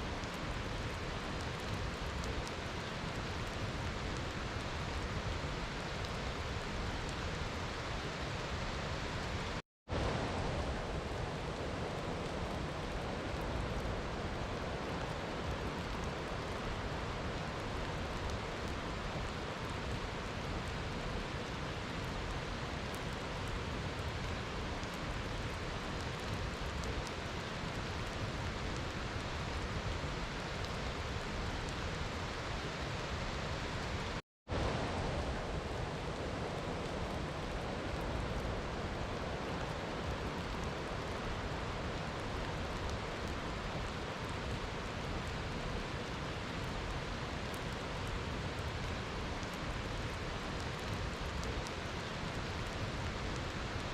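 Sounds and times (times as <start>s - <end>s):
steady rainfall: 0.0s - 53.9s.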